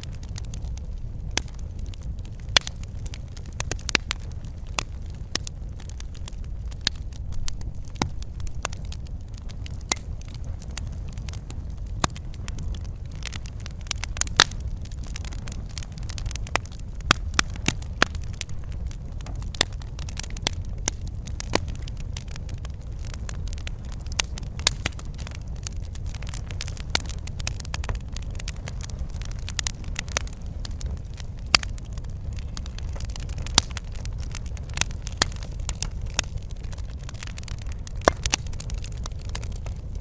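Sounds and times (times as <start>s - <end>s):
fire crackling and popping: 0.0s - 40.0s.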